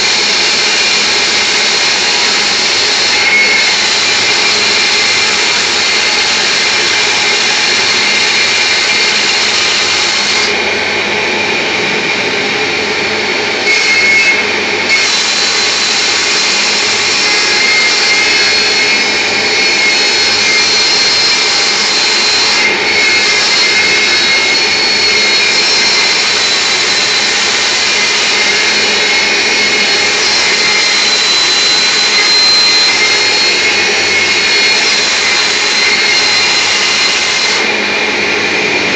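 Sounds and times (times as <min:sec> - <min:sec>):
lathe turning wood: 0:00.0 - 0:38.9.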